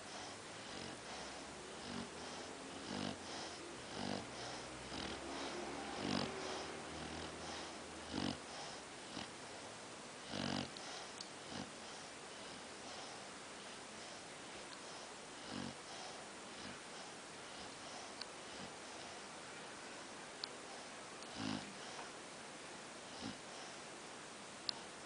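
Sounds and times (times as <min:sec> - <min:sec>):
pet snoring: 0:00.0 - 0:09.6, 0:10.2 - 0:19.3, 0:20.7 - 0:22.1, 0:23.1 - 0:23.8.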